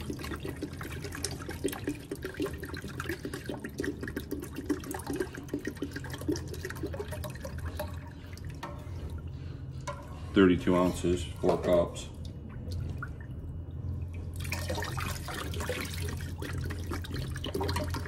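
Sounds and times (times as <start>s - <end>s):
liquid pouring into water: 0.0s - 9.2s, 12.2s - 18.0s.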